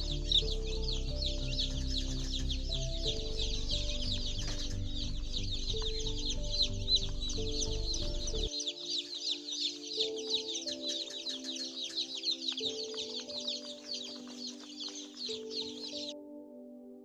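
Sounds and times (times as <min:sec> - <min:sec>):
chicks peeping: 0:00.0 - 0:16.1.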